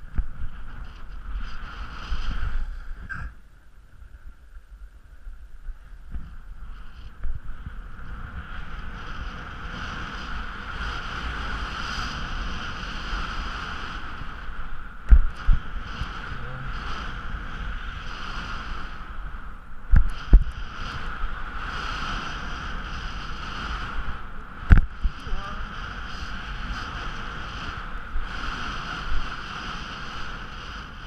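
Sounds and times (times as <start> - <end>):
skis hissing over snow: 0.0 - 3.0, 5.8 - 14.6, 15.3 - 31.0
wind rumbling on microphone: 0.0 - 31.0.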